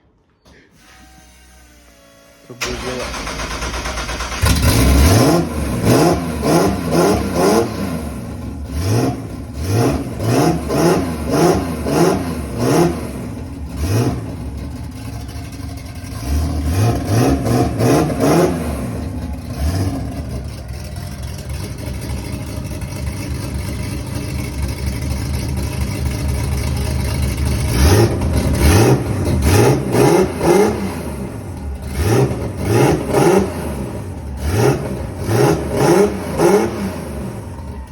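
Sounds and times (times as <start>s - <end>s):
car engine revving and idling: 0.8s - 37.9s.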